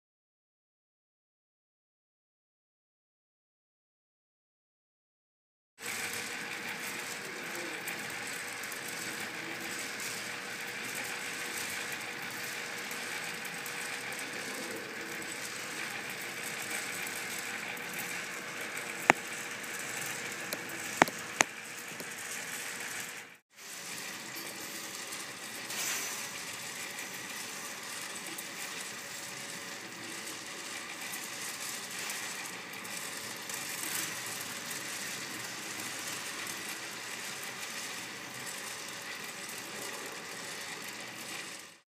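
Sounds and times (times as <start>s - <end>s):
electric motor rattling: 5.8s - 41.8s.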